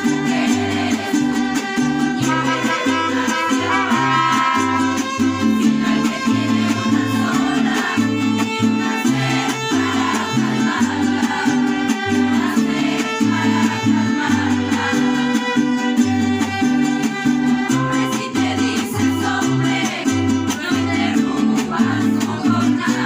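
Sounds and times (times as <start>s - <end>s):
mariachi band playing: 0.0s - 23.0s.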